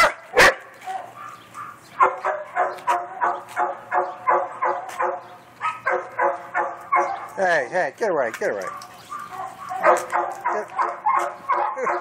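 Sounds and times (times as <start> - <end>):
dog barking high-pitched: 0.0 - 7.4, 8.6 - 12.0.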